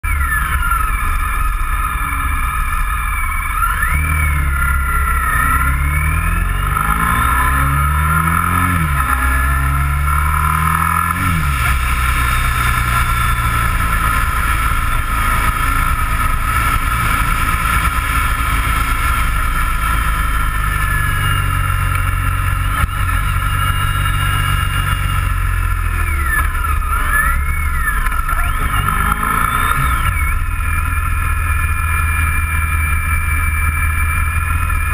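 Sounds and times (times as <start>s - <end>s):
motorcycle engine accelerating: 0.0s - 34.9s
road noise: 0.0s - 34.9s.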